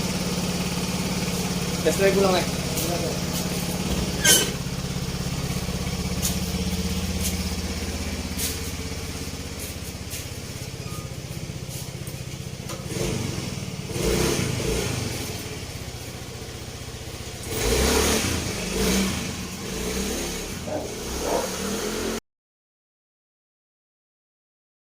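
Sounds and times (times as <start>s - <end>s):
scooter engine idling and revving: 0.0s - 22.2s.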